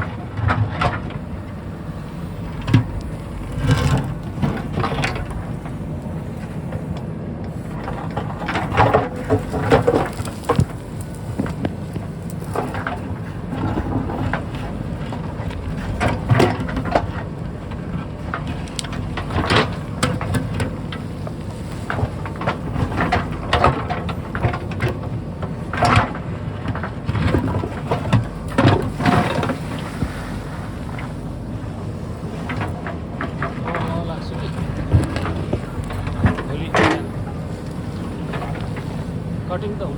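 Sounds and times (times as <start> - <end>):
backhoe engine running: 0.0 - 39.9
digging knocks and clatters: 0.0 - 39.9.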